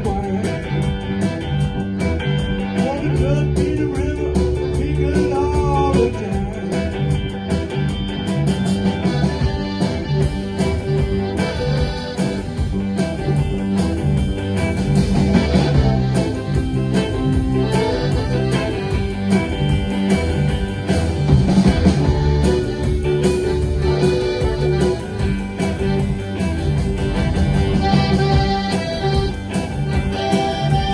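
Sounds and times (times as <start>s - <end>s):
bass: 0.0s - 30.9s
drums: 0.0s - 30.9s
electric guitar: 0.0s - 30.9s.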